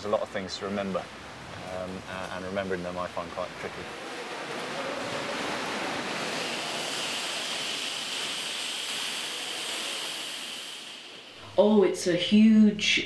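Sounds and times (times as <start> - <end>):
choppy water churning: 0.0 - 10.6.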